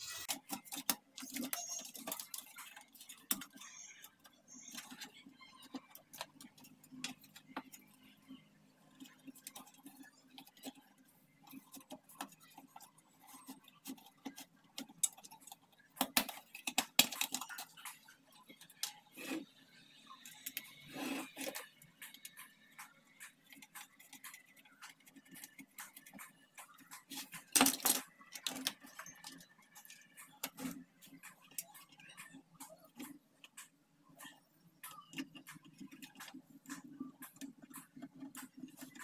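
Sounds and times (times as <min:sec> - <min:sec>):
light clicks and taps of electronics: 0:00.2 - 0:39.0.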